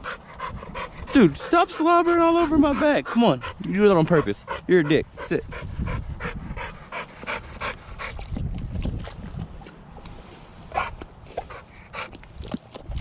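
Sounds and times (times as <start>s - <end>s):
dog panting: 0.0s - 9.0s, 10.7s - 12.3s.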